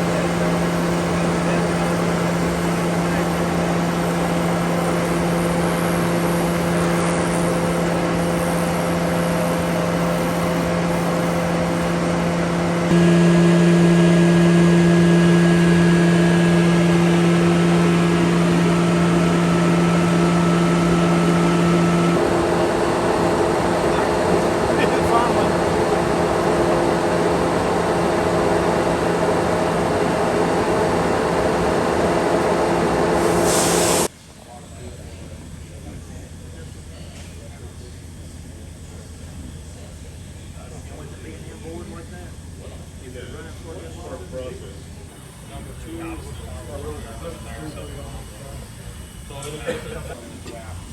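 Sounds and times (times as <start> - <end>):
machinery humming: 0.0 - 50.9.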